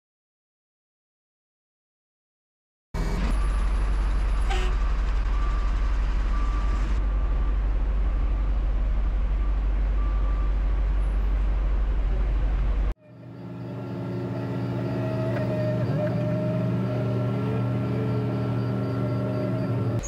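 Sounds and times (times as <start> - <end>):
diesel engine rumbling: 3.0 - 20.0.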